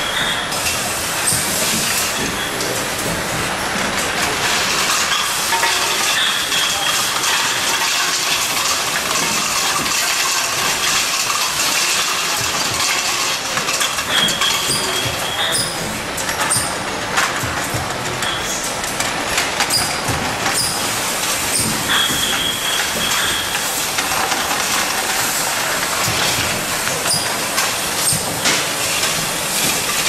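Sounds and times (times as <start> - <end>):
filling line mechanical clatter: 0.0 - 30.0
metal lids rattling down chute: 1.6 - 30.0.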